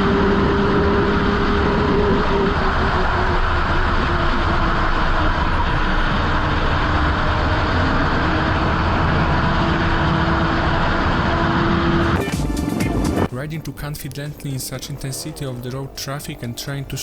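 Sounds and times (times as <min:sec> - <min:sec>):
wind and road noise: 0:00.0 - 0:12.2, 0:13.2 - 0:17.0
motorcycle engine drone: 0:00.0 - 0:17.0.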